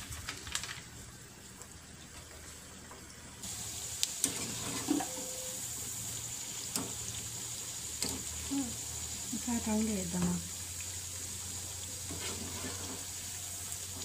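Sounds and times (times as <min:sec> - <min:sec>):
dough deep-frying in oil: 0:00.0 - 0:14.0.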